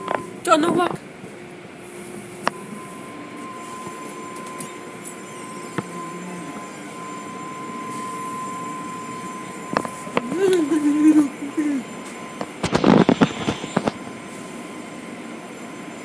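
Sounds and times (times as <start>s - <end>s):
thin high whine: 0.0s - 16.0s.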